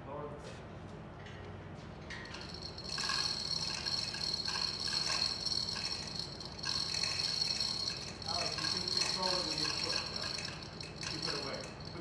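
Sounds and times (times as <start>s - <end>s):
rattling: 2.2s - 12.0s.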